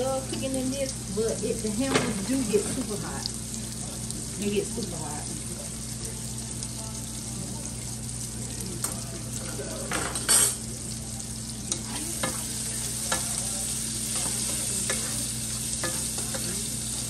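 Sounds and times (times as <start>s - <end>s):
bacon sizzling in oil: 0.0s - 17.0s.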